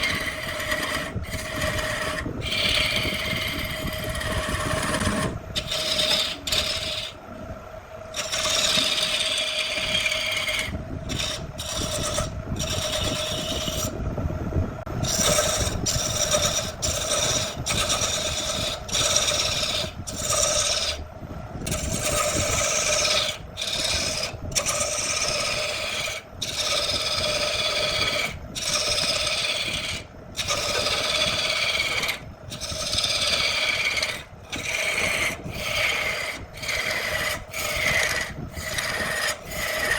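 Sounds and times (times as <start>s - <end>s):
tool rasping against wood: 0.0s - 7.2s, 8.1s - 13.9s, 15.0s - 21.0s, 21.6s - 39.9s
machine hum: 0.0s - 39.9s.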